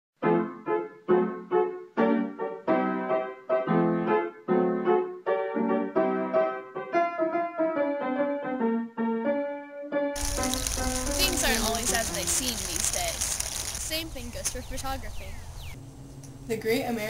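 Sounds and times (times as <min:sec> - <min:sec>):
piano chords: 0:00.2 - 0:17.0.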